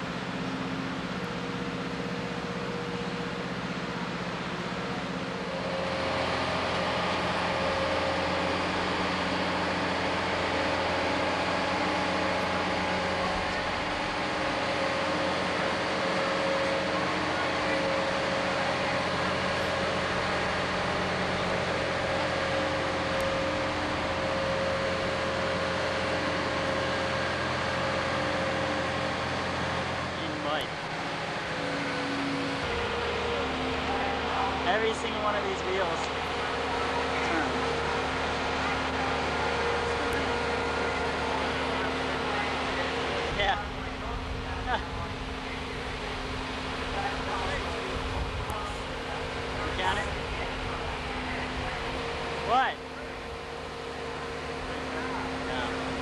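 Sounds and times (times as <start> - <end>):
heavy vehicle engine drone: 0.0 - 56.0
steady whine: 0.0 - 56.0.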